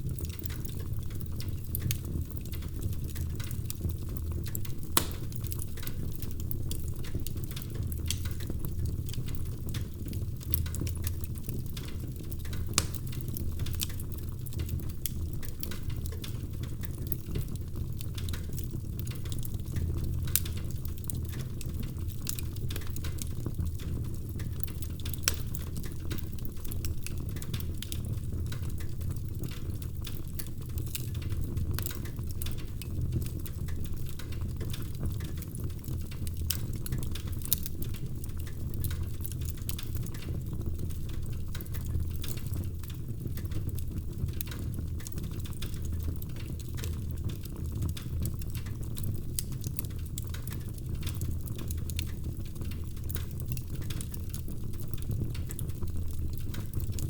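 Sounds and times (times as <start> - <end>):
fire burning in fireplace: 0.0 - 57.0
fire crackling and popping: 0.0 - 57.0.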